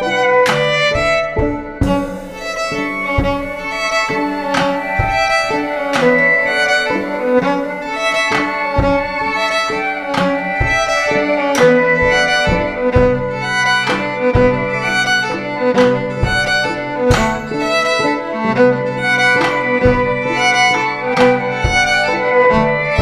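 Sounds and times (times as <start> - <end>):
violin bowed: 0.0 - 23.0
drum and cymbal hits: 0.5 - 22.2.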